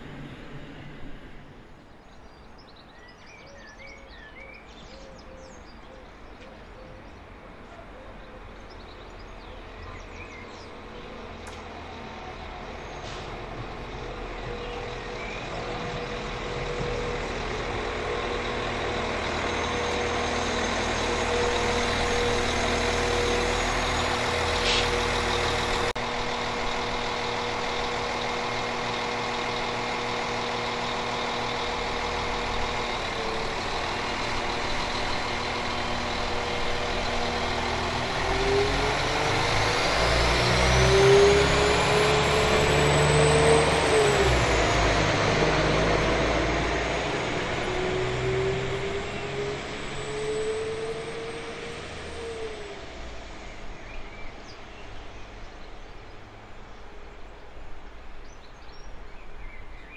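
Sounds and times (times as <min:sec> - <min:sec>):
train engine revving whine: 0:00.0 - 0:02.8, 0:03.5 - 0:59.9
diesel train engines running: 0:00.0 - 0:59.9.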